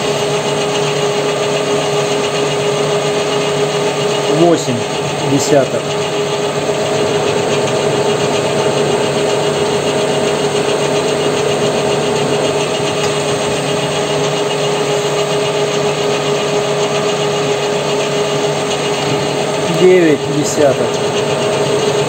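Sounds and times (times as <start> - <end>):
lathe cutter cutting steel: 0.0 - 22.0
metal lathe motor whine: 0.0 - 22.0.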